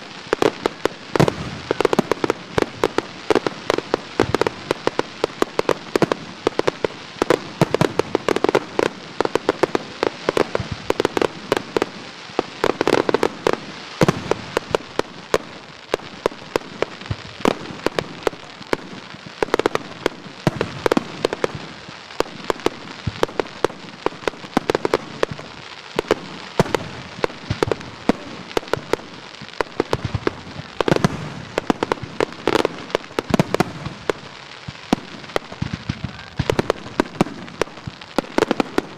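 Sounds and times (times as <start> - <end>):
fireworks popping and banging: 0.0 - 38.9.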